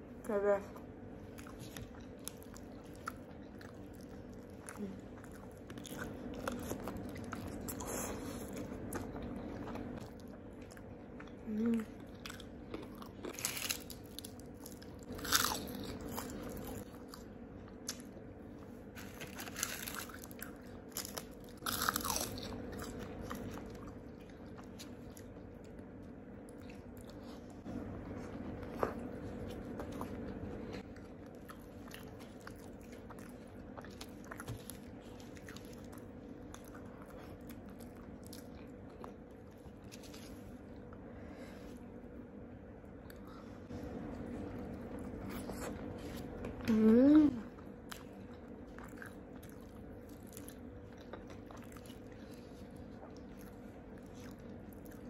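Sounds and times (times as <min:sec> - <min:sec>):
chewing: 0:01.2 - 0:41.1, 0:42.9 - 0:55.0
crunching fried chicken: 0:01.3 - 0:27.3, 0:29.3 - 0:40.8, 0:47.6 - 0:55.0.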